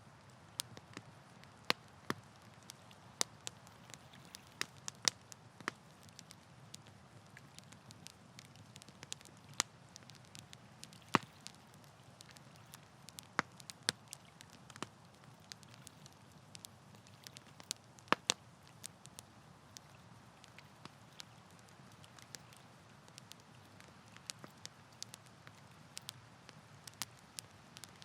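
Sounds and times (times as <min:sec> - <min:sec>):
campfire wood crackling and popping: 0:00.0 - 0:28.0
soft steady hiss: 0:00.0 - 0:28.0.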